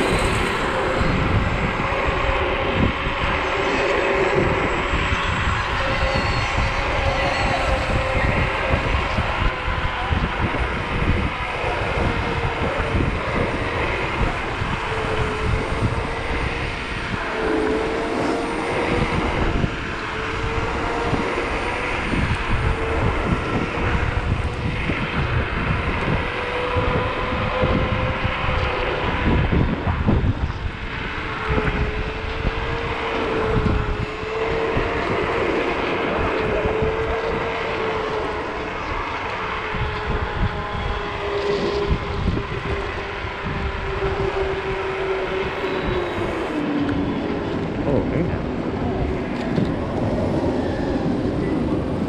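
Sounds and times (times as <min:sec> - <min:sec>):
electric scooter motor whining: 0:00.0 - 0:52.0
wind buffeting microphone: 0:00.0 - 0:52.0.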